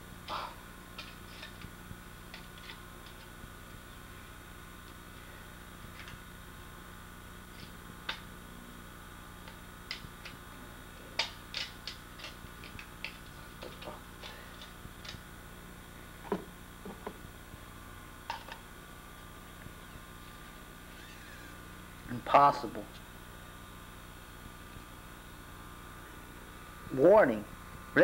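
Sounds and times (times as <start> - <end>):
low hum and hiss: 0.0 - 28.0.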